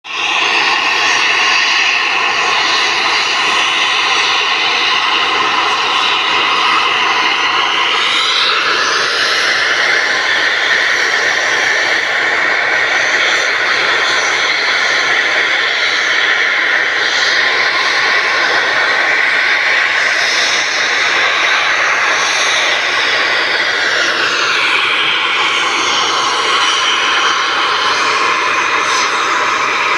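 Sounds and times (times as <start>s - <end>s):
factory machinery drone: 0.1s - 29.9s.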